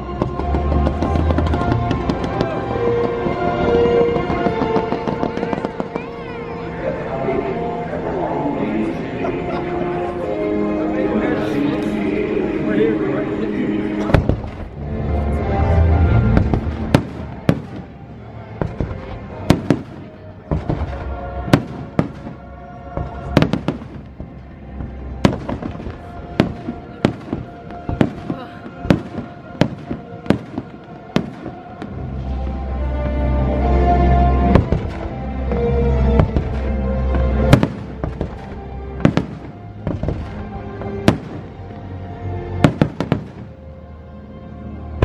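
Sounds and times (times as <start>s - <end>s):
music soundtrack: 0.0s - 45.0s.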